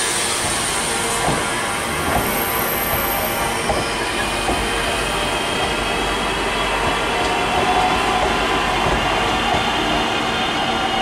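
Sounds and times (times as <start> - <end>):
rail noise: 0.0 - 11.0
train machinery hum: 0.0 - 11.0.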